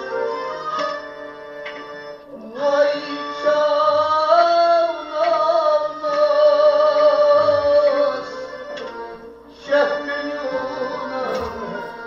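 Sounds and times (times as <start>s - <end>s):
sustained accompaniment: 0.0s - 12.0s.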